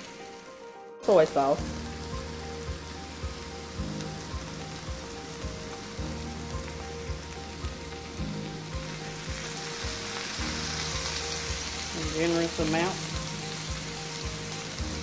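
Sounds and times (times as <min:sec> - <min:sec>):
vegetables sizzling on a griddle: 0:00.0 - 0:15.0.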